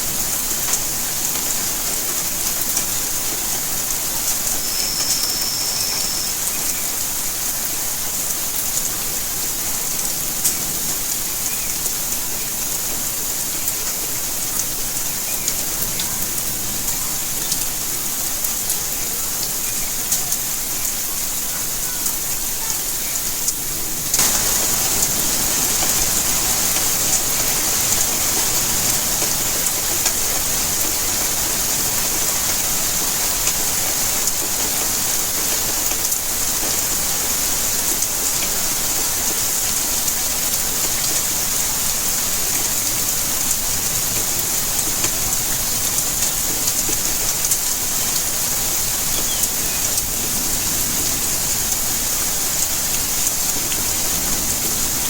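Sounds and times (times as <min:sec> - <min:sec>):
raindrops pattering: 0:00.0 - 0:55.0
steady rainfall hiss: 0:00.0 - 0:55.0.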